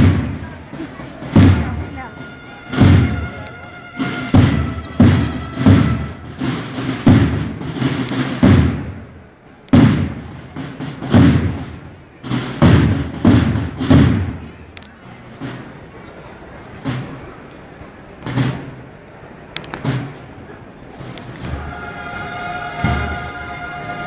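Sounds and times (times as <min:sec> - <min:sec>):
slow drum beats: 0:00.0 - 0:24.0.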